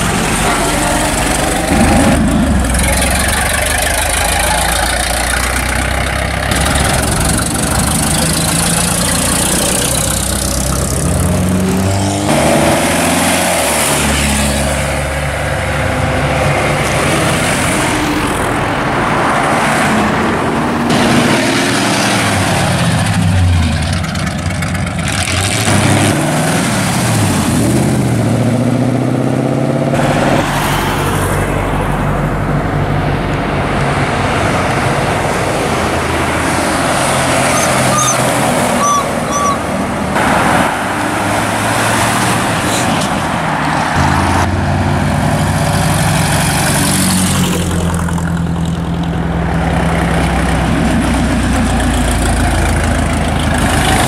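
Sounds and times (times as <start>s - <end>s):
cars driving past revving: 0.0s - 54.0s.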